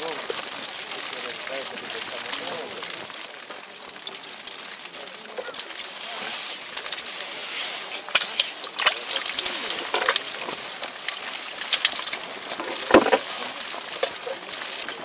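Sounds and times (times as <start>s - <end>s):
fish splashing in water: 0.0s - 15.0s
meltwater splashing and trickling: 0.0s - 15.0s.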